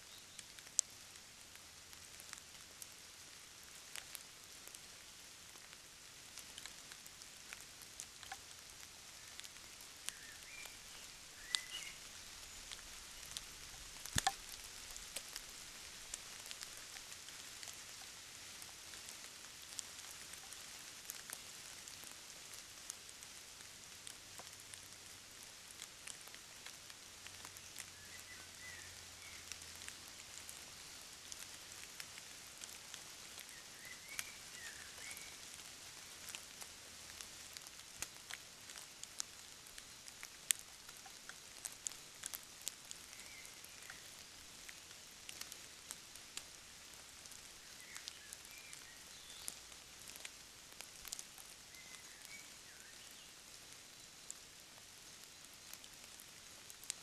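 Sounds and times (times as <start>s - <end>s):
small ticks and crackles: 0.0s - 57.0s
steady hiss: 0.0s - 57.0s.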